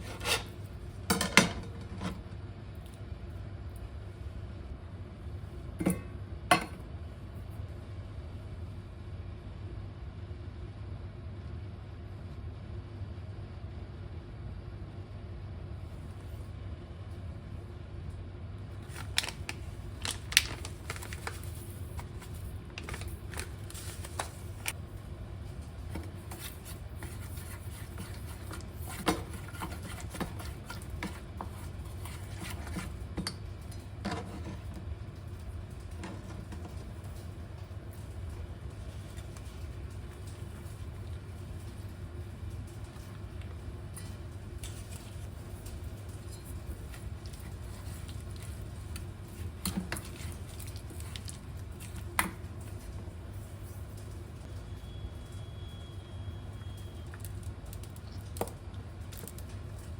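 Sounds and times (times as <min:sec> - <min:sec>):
range hood fan humming: 0:00.0 - 0:59.9.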